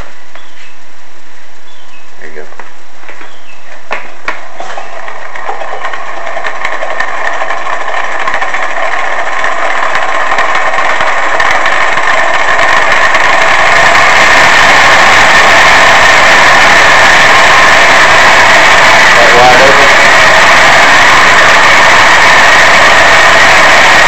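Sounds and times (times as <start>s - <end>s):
model engine mechanical hum: 3.2s - 24.0s.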